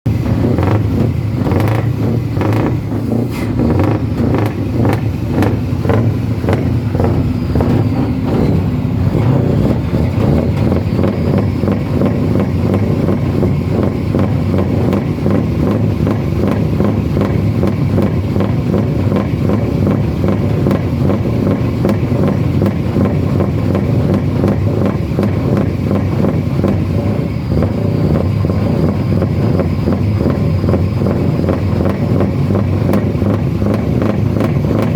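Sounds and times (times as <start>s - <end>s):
diesel truck engine pulsing: 0.0s - 34.9s.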